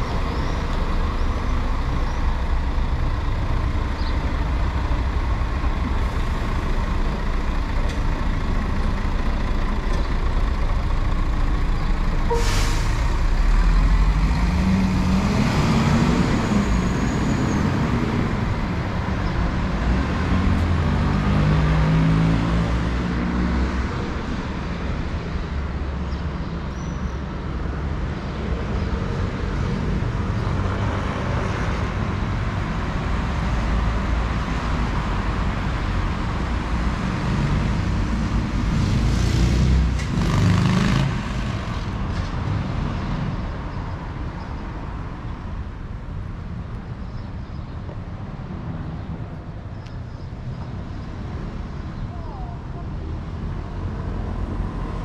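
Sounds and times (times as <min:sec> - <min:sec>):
vehicles passing with rumble: 0:00.0 - 0:55.0.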